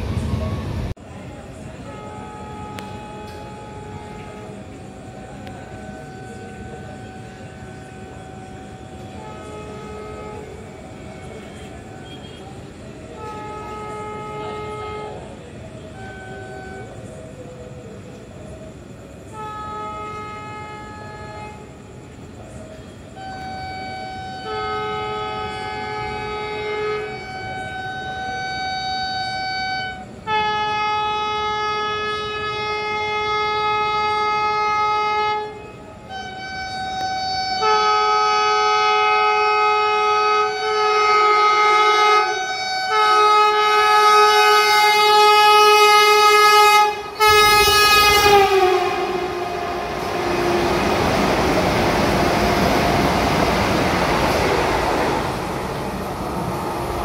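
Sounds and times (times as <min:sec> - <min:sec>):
train air horn blasts: 0:01.8 - 0:17.1, 0:19.3 - 0:21.9, 0:23.0 - 0:54.4.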